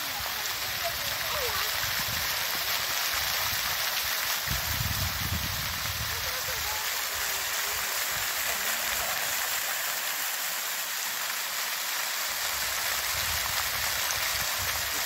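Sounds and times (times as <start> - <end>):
fountain jets splashing into pool: 0.0 - 15.0.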